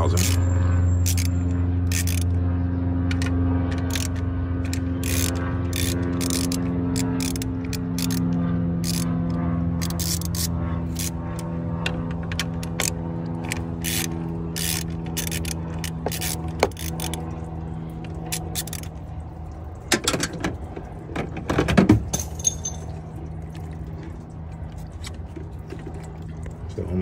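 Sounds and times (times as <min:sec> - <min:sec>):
steady low hum: 0:00.0 - 0:27.0
clicks and rattles of hose: 0:03.1 - 0:27.0.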